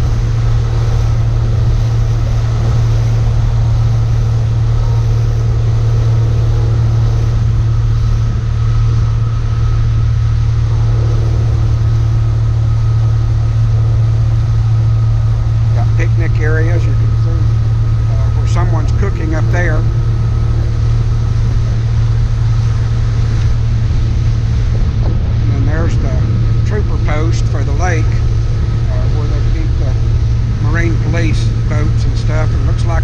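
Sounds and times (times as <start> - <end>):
boat motor running: 0.0 - 33.0.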